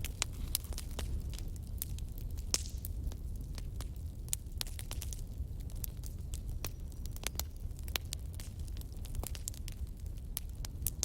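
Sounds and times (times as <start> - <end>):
fire crackling and popping: 0.0 - 11.0
wood fire rumbling: 0.0 - 11.0.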